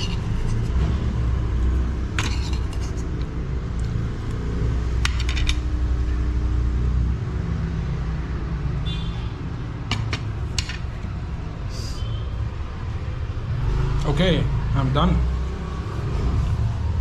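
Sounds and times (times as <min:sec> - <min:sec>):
vehicle engine rumbling: 0:00.0 - 0:15.0
traffic rumble: 0:00.0 - 0:17.0.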